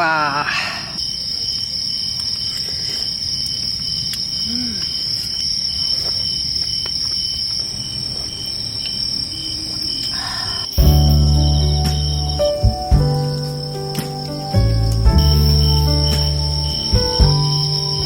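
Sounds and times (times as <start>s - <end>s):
insects trilling high: 0.0s - 18.0s
pulsing insect trill: 0.9s - 18.0s.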